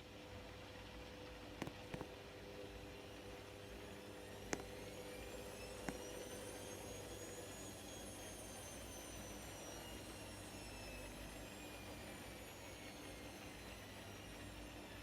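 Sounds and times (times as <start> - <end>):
motor whine: 0.0 - 15.0
washing machine running: 0.0 - 15.0.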